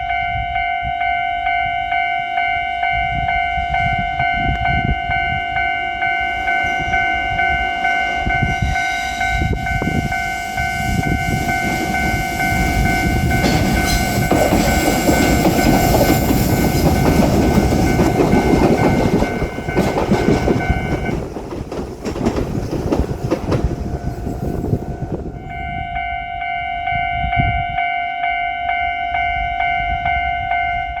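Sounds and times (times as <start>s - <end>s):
level crossing warning bell: 0.0s - 21.8s, 23.2s - 31.0s
train rumbling and clattering: 0.0s - 31.0s.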